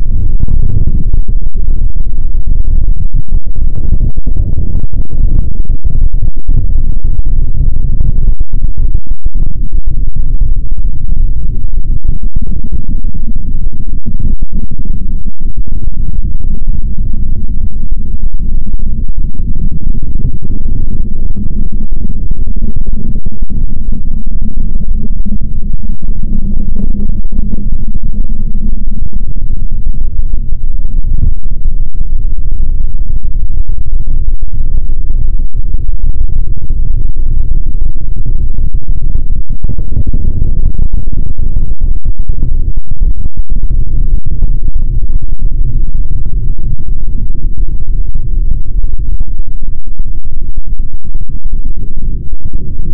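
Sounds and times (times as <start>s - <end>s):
distorted low rumble: 0.0s - 52.9s.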